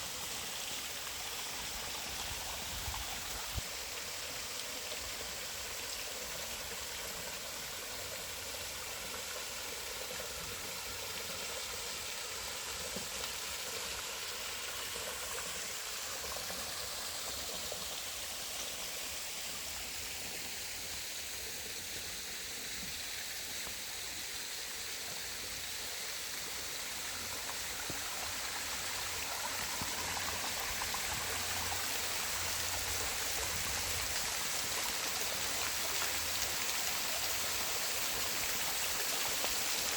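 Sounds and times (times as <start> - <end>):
creek water cascading: 0.0 - 39.9.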